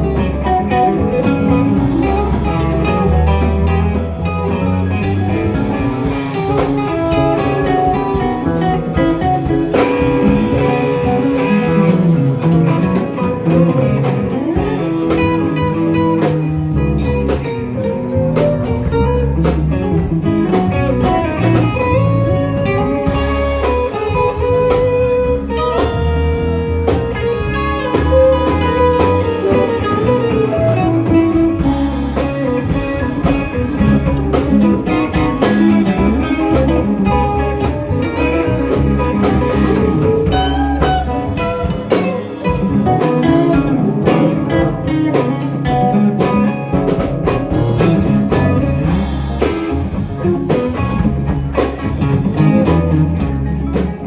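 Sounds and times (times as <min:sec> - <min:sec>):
bass guitar: 0:00.0 - 0:54.0
drum kit: 0:00.0 - 0:54.0
lead guitar: 0:00.0 - 0:54.0.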